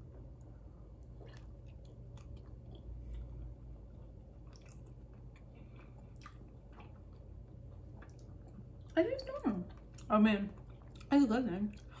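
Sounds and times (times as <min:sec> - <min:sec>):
low steady hum: 0:00.0 - 0:12.0
people chewing: 0:01.0 - 0:11.1.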